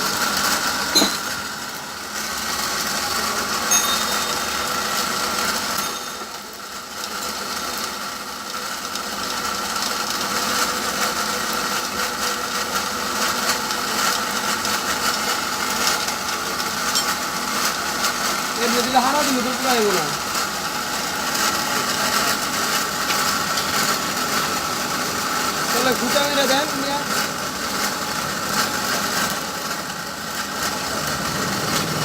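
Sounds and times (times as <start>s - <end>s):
workshop machine whining: 0.0s - 8.3s, 10.4s - 32.0s.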